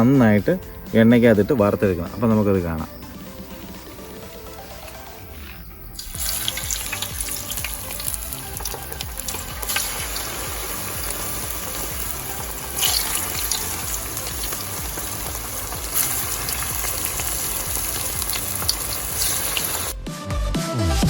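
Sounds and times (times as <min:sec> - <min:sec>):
hot oil sizzling and crackling: 0:00.8 - 0:20.0.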